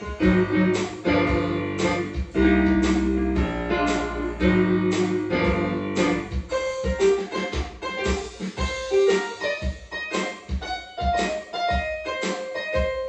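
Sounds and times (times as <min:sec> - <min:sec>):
music with a steady beat: 0:00.0 - 0:13.0.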